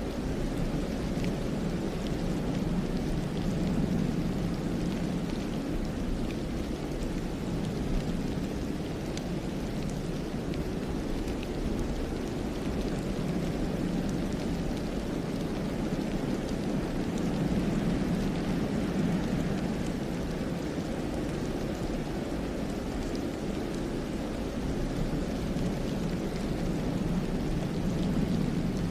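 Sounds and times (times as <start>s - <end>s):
wind through pine trees: 0.0s - 28.9s.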